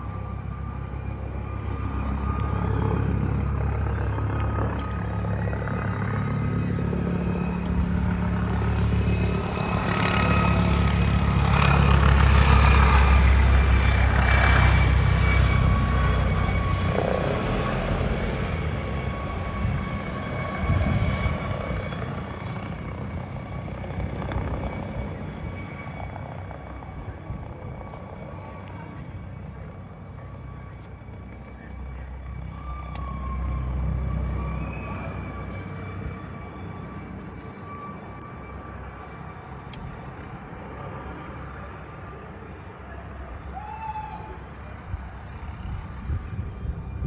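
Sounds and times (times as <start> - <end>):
helicopter rotor rumble: 0.0 - 47.0
turbine whine: 0.0 - 47.0.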